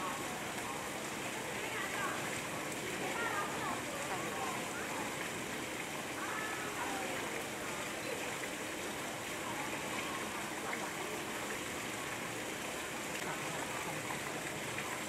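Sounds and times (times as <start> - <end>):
waterfall splashing into pool: 0.0 - 15.0.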